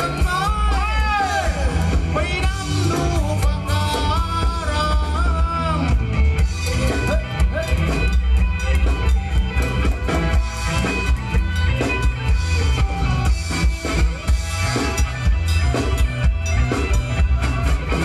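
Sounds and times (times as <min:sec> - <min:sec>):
bending lead melody: 0:00.0 - 0:18.0
drum kit beat: 0:00.0 - 0:18.0
heavy bass: 0:00.0 - 0:18.0
live dance band playing: 0:00.0 - 0:18.0.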